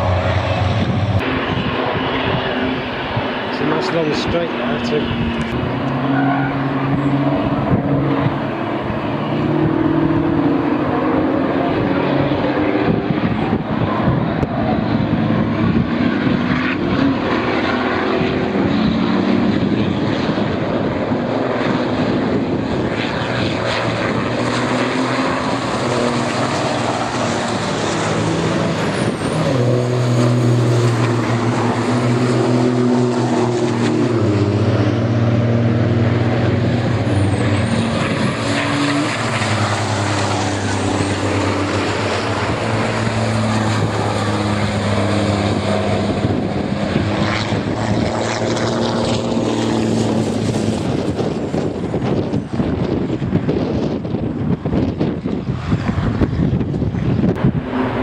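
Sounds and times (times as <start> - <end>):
trucks' diesel engines racing past: 0.0 - 56.6, 57.2 - 58.0.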